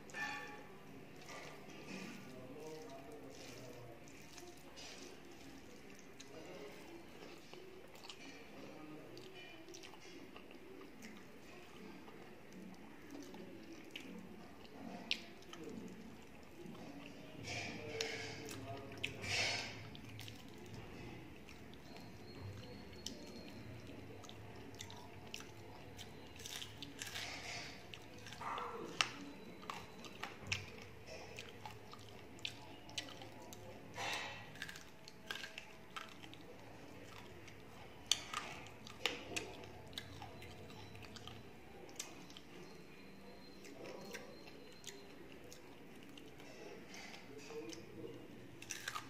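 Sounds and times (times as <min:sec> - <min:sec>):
person chewing crisp food: 0:00.0 - 0:49.0.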